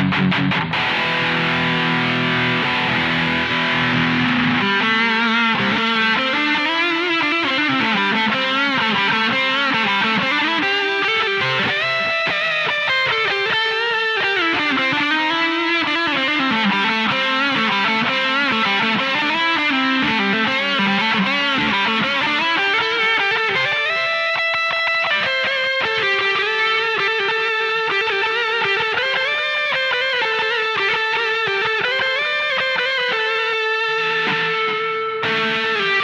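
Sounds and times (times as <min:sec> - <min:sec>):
distorted electric guitar melody: 0:00.0 - 0:36.0.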